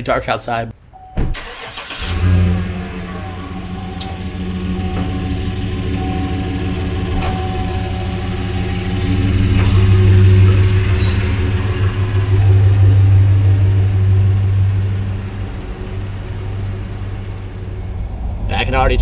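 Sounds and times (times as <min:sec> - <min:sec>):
car engine idling: 0:01.4 - 0:19.0.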